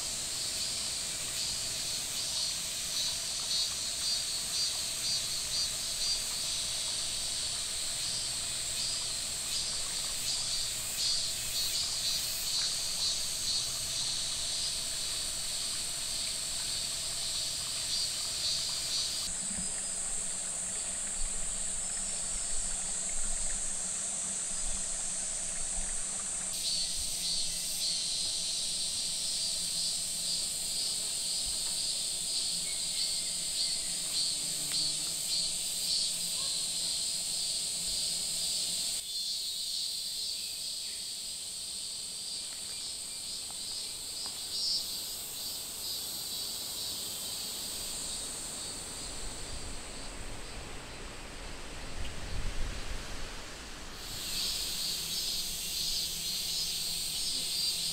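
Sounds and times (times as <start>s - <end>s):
pulsing insect chirps: 0.0s - 50.6s, 54.0s - 57.9s
insects chirring in chorus: 0.0s - 51.2s, 54.0s - 57.9s.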